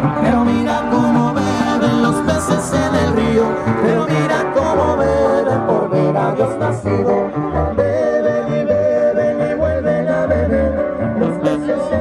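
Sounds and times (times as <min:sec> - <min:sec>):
acoustic guitars playing: 0:00.0 - 0:12.0.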